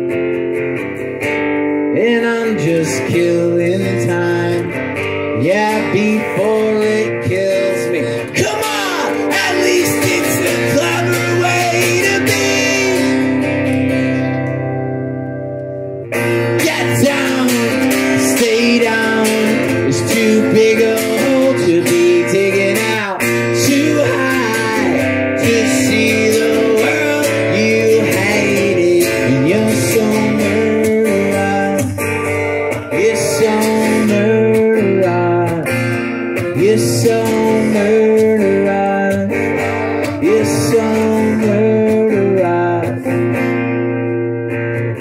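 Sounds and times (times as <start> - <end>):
acoustic guitar strumming: 0.0 - 45.0
man singing: 1.9 - 14.5, 16.2 - 43.6.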